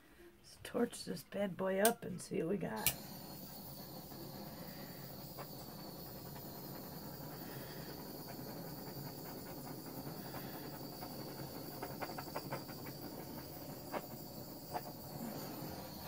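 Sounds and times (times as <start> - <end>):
gas torch hissing: 2.6 - 16.0.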